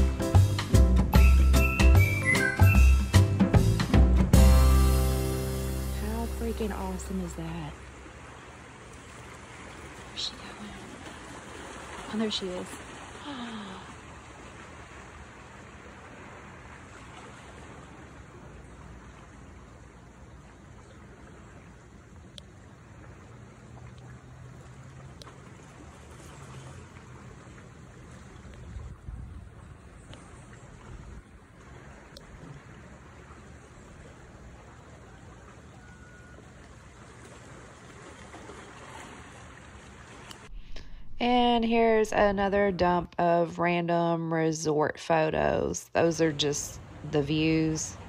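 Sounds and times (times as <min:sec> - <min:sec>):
wind: 0:00.0 - 0:48.0
sea water washing: 0:03.1 - 0:43.0.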